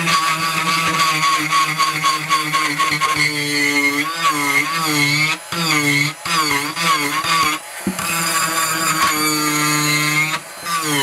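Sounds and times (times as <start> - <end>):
rotary tool grinding wood: 0.0 - 11.0.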